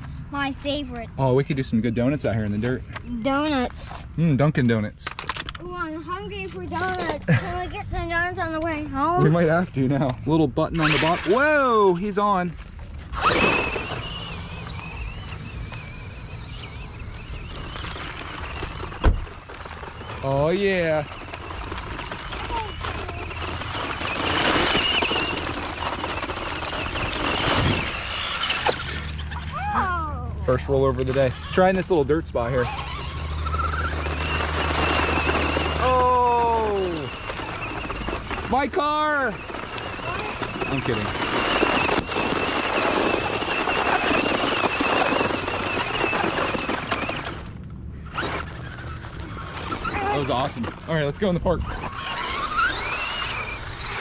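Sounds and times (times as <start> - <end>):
rc car motor whine: 0.0 - 54.0
tyres crunching gravel: 0.0 - 54.0.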